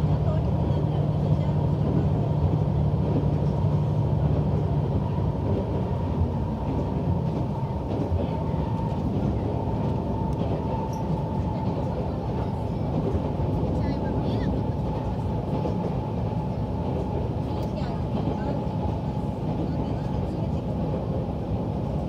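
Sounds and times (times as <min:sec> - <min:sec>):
train engine and wheels rumbling: 0:00.0 - 0:22.0.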